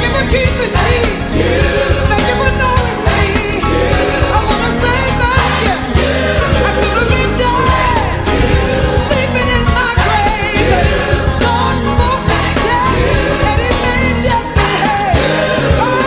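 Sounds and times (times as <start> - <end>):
band playing steady beat: 0.0 - 16.0
person singing gospel song: 0.0 - 16.0.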